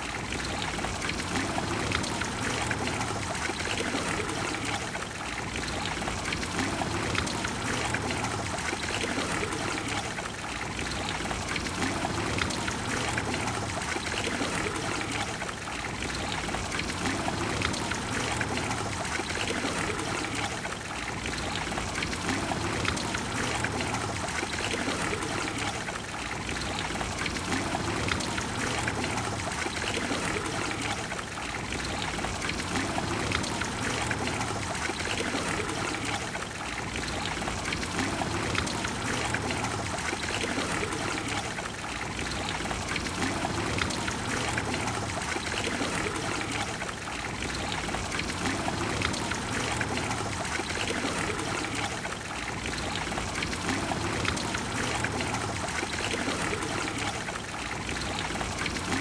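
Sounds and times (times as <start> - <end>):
fountain water splashing into basin: 0.0 - 59.0.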